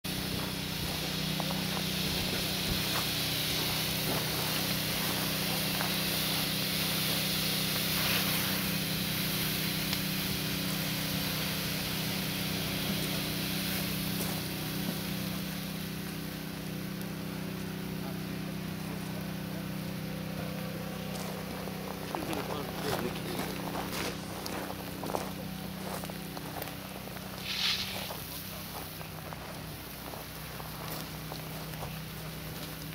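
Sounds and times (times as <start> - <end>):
engine drone: 0.0 - 32.9
fire hose water hissing: 0.0 - 32.9
fire crackling: 0.1 - 32.9.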